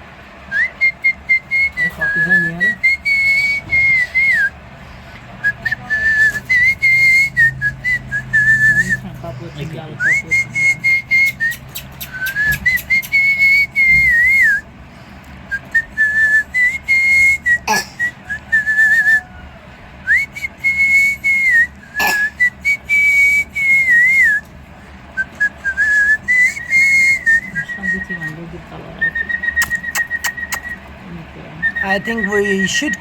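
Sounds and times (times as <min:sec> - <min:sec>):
whistling: 0:00.5 - 0:04.6, 0:05.4 - 0:09.0, 0:10.0 - 0:14.7, 0:15.5 - 0:19.4, 0:20.0 - 0:24.5, 0:25.2 - 0:28.4, 0:29.0 - 0:30.9, 0:31.6 - 0:33.0.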